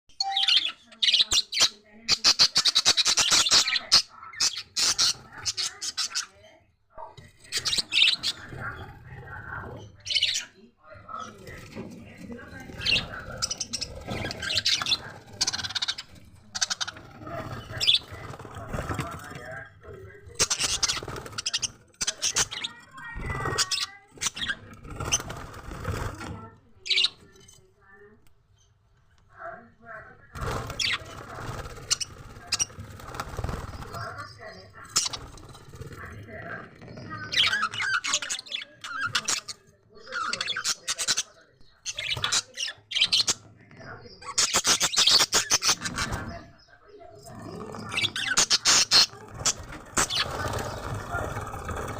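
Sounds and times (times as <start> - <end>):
flock of birds chirping and squawking: 0.2 - 51.9.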